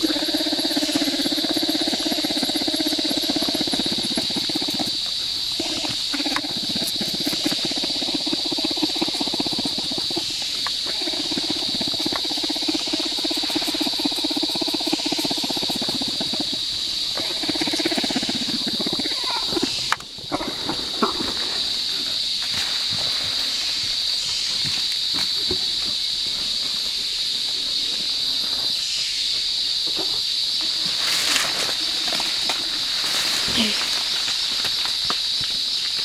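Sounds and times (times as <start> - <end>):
insect chorus drone: 0.0 - 36.0.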